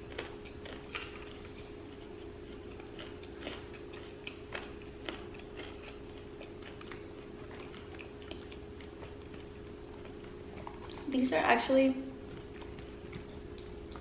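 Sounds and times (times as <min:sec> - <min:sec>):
person chewing crunchy food: 0:00.0 - 0:11.1, 0:12.2 - 0:14.0
steady low hum: 0:00.0 - 0:14.0.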